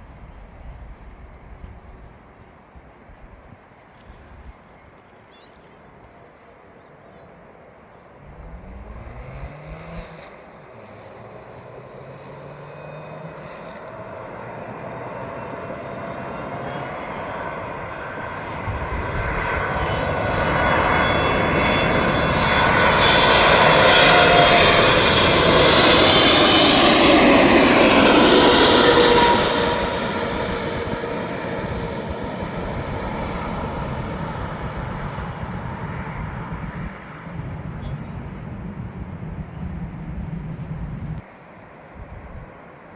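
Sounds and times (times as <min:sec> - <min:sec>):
jet aircraft passing: 0:03.7 - 0:42.9.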